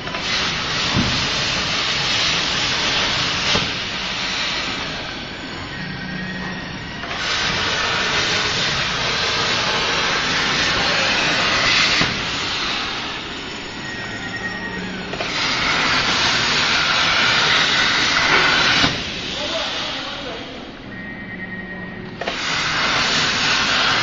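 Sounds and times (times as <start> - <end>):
plasma cutter arc hissing: 0.0 - 6.1, 6.7 - 13.9, 15.0 - 20.6, 22.2 - 24.0.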